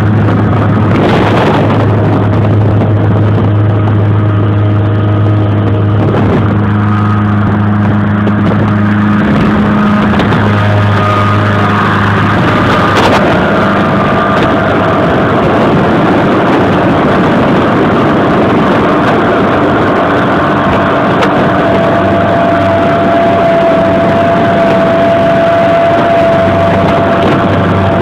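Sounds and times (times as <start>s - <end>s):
boat engine whining: 0.0s - 28.0s.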